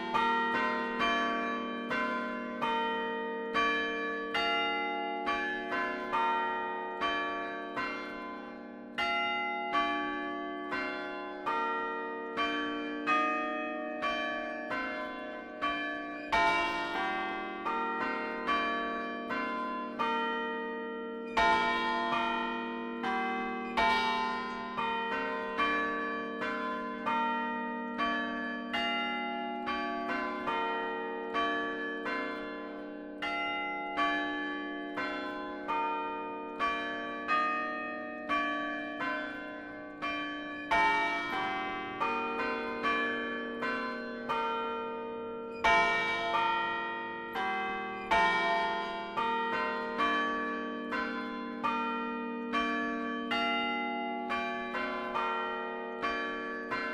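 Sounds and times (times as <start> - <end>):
church bells chiming a melody: 0.0 - 56.9.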